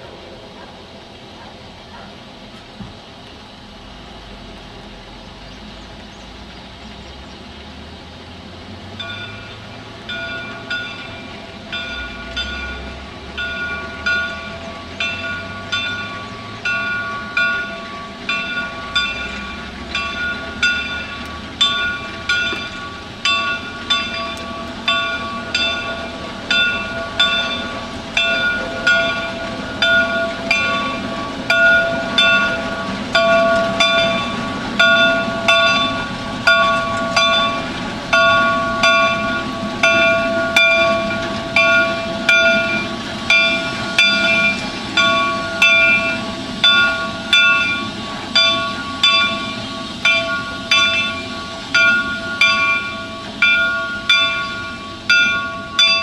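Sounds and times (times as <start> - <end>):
steam locomotive rumble: 0.0 - 56.0
locomotive clanking beat: 8.8 - 56.0.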